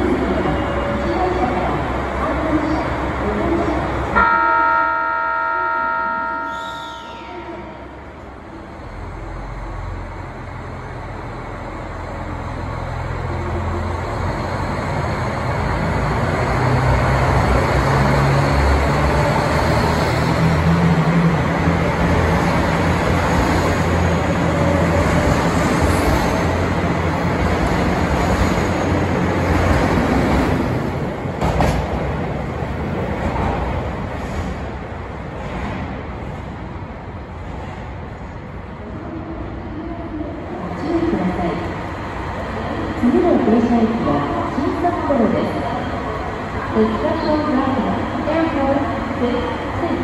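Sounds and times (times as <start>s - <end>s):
diesel train engine: 0.0s - 50.0s.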